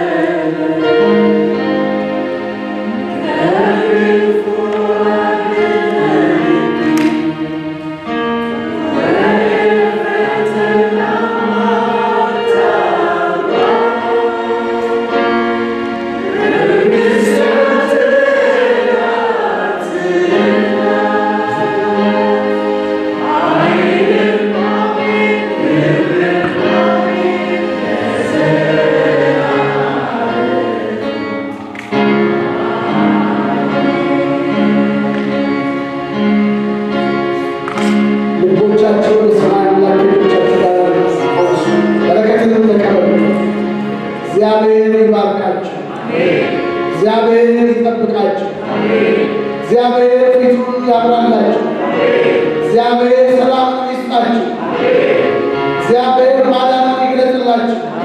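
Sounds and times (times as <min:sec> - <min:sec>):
choir singing slow worship song: 0:00.0 - 0:58.0.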